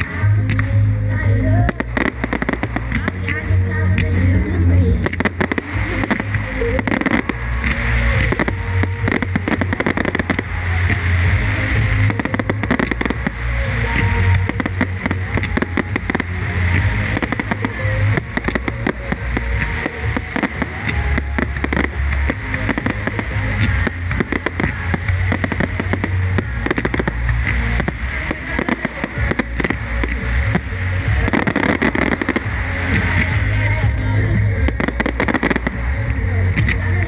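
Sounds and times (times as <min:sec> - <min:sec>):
fireworks bursting and crackling: 0:00.0 - 0:37.0
loud music with heavy bass: 0:00.0 - 0:37.0.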